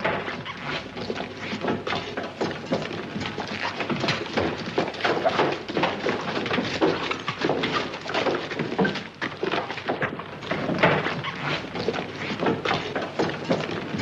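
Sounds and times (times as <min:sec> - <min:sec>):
horse hooves on barn floor: 0:00.0 - 0:14.0.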